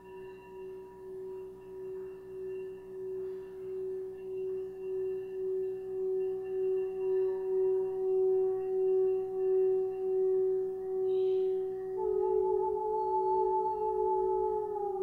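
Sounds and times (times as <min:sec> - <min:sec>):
singing bowl tone: 0:00.0 - 0:15.0.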